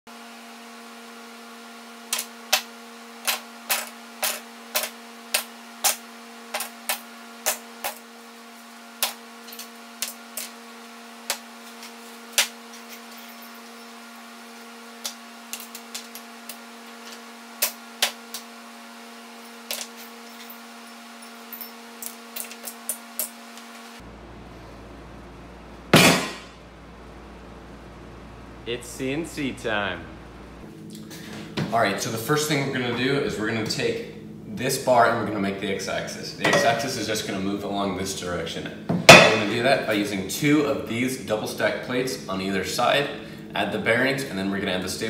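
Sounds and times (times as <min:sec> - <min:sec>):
electrical hum: 0:00.1 - 0:45.0.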